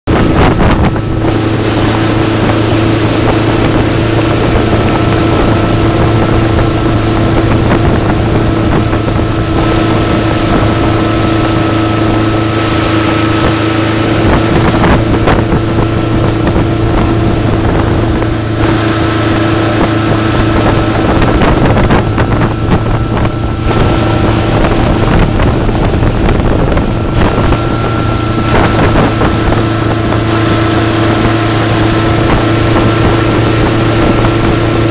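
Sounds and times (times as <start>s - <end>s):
boat engine humming: 0.0s - 34.9s
wind rushing over microphone: 0.0s - 34.9s.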